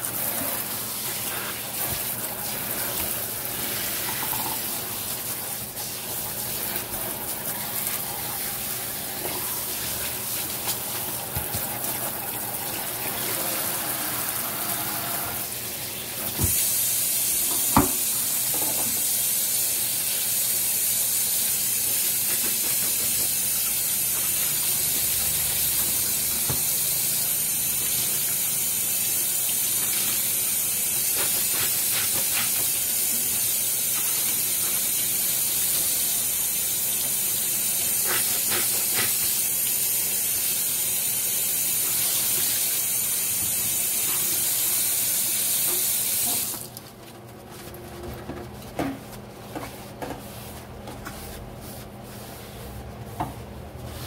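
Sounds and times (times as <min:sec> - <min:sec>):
faucet running into steel sink: 0:00.0 - 0:15.5, 0:16.2 - 0:46.8.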